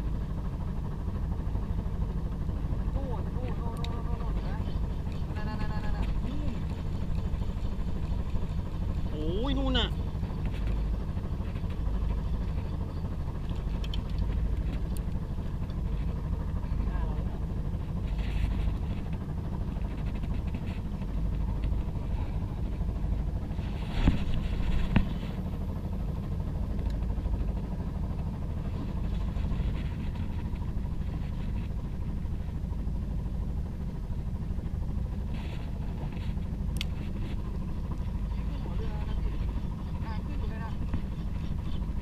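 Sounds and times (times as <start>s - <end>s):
boat engine rumbling: 0.0s - 42.0s.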